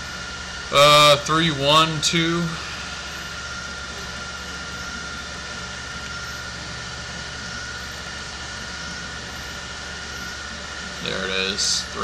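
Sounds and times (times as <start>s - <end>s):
background hum and hiss: 0.0s - 12.0s
faint high whine: 0.0s - 12.0s.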